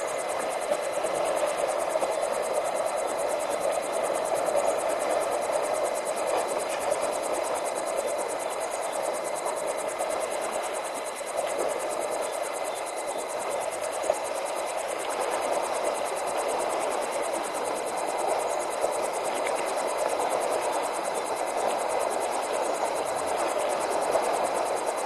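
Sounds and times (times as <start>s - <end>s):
high pulsing insect trill: 0.0s - 25.0s.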